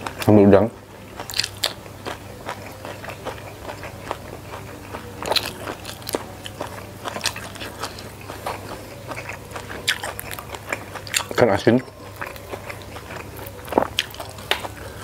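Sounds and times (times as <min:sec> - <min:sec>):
chewing with wet mouth clicks: 0:01.1 - 0:15.0
crunchy snaps of chewing: 0:01.1 - 0:15.0.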